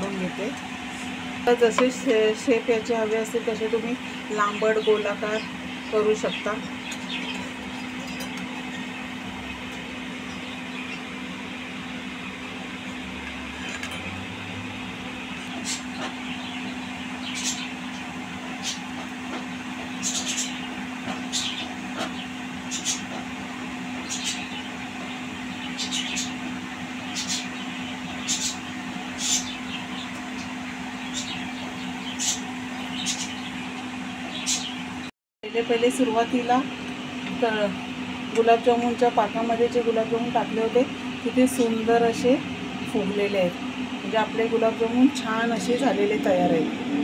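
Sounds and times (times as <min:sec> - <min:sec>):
constant low hum: 0:00.0 - 0:47.0.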